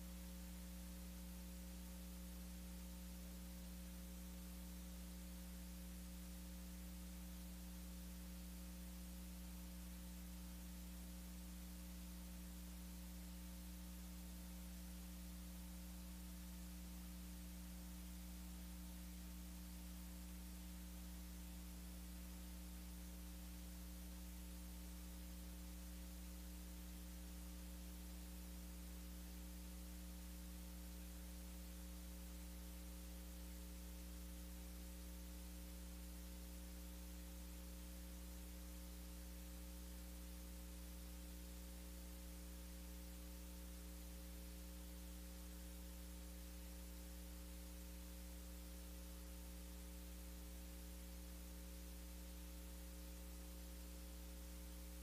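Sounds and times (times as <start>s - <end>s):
constant hiss: 0.0s - 55.0s
electrical mains hum: 0.0s - 55.0s.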